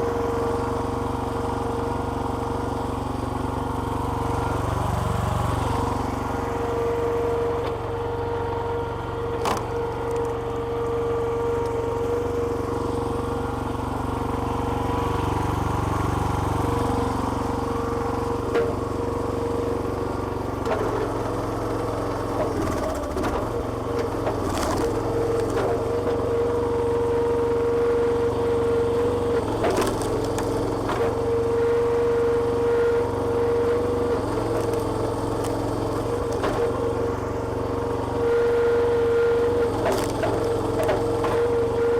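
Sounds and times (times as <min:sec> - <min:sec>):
small petrol engine whining: 0:00.0 - 0:41.9.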